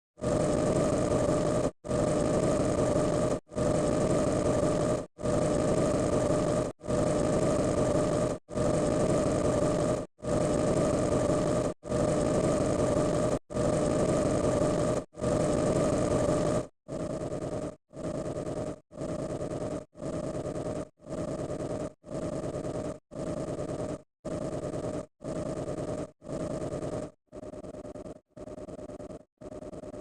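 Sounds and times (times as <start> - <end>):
mechanical engine-like drone: 0.2 - 30.0.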